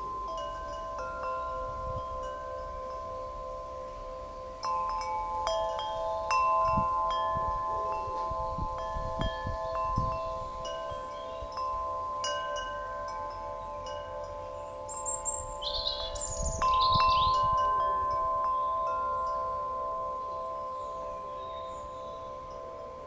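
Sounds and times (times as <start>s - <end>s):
deep wind chime ringing: 0.0s - 23.0s.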